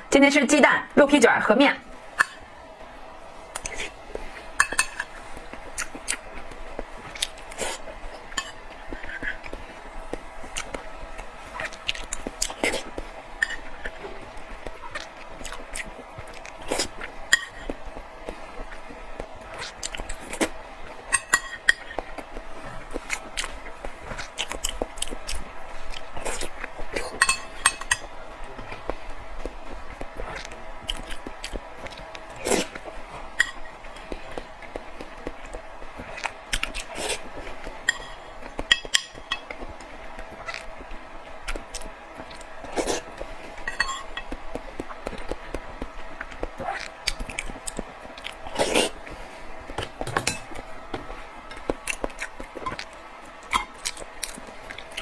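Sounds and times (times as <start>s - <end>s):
utensils clinking on dishes: 1.8s - 2.8s, 3.5s - 40.9s, 41.5s - 52.9s.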